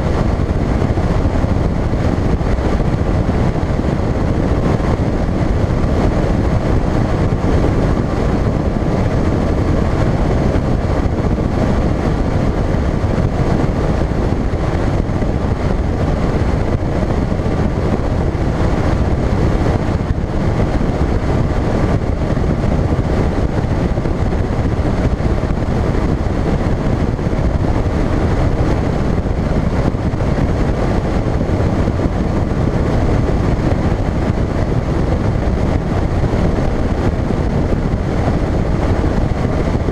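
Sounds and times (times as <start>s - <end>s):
outboard motor running: 0.0s - 39.9s
wind and water rushing: 0.0s - 39.9s.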